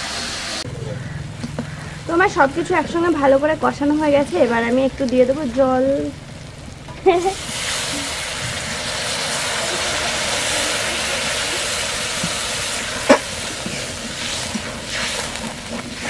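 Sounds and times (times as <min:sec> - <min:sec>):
water sizzling in hot wok: 0:00.0 - 0:00.7, 0:01.4 - 0:16.0.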